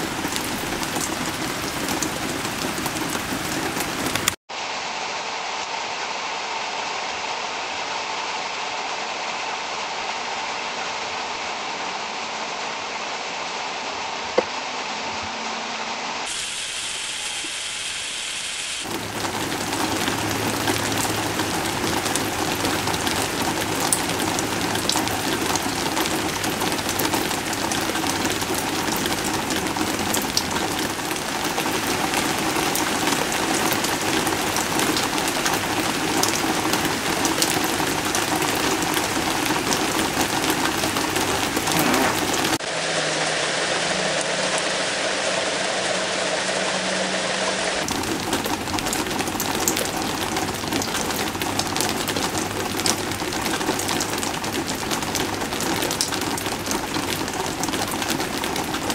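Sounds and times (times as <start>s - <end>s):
heavy rain on a deck: 0.0s - 58.9s.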